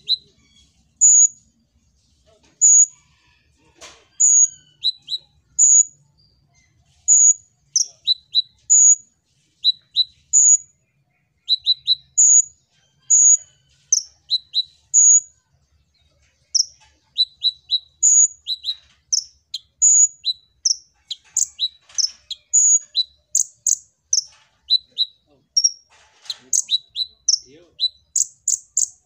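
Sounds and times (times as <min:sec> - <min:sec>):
bird singing high sharp chips: 0:00.0 - 0:01.5, 0:02.6 - 0:02.9, 0:04.2 - 0:15.4, 0:16.5 - 0:29.0.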